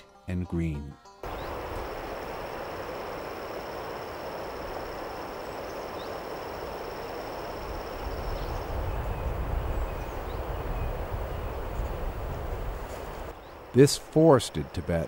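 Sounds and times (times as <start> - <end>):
faint bird chirps: 1.2 - 13.9
high insect trill: 1.2 - 15.0
steady rushing noise: 1.2 - 15.0.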